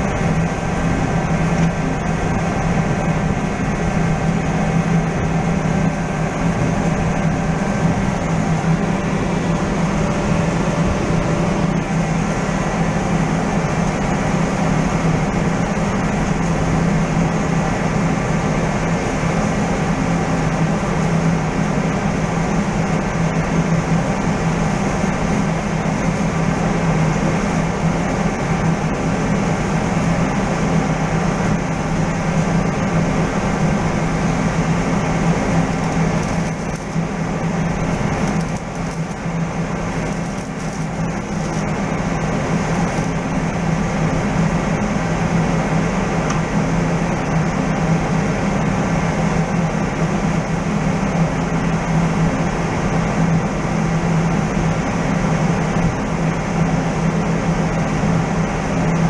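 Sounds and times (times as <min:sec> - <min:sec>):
loud mechanical drone: 0:00.0 - 0:59.0.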